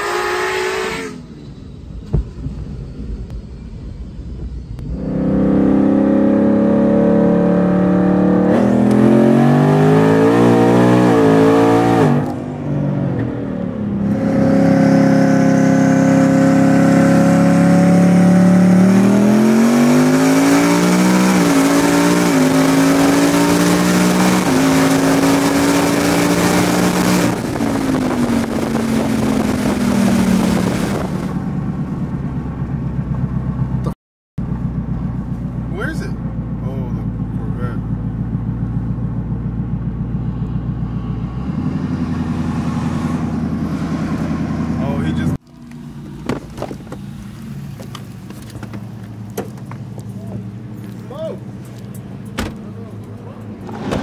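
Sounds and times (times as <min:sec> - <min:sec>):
car engine accelerating hard: 0:04.4 - 0:54.0.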